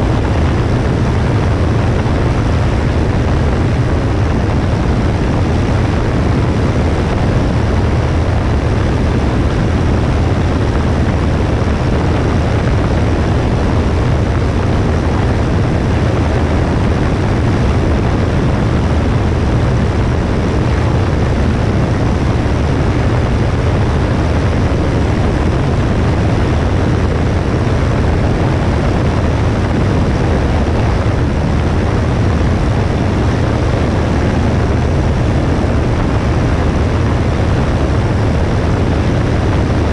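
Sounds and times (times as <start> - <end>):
propeller engine drone: 0.0 - 39.9
wind rushing over camera: 0.0 - 39.9.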